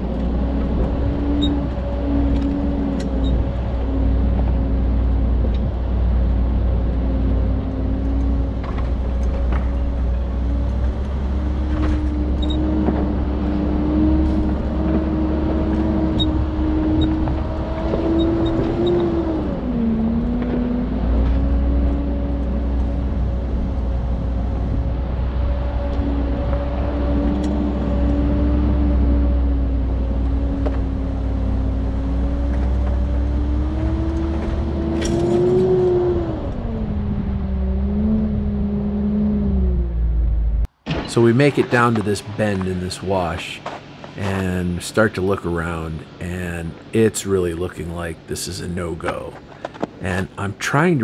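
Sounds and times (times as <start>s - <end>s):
vehicle engine droning: 0.0s - 51.0s.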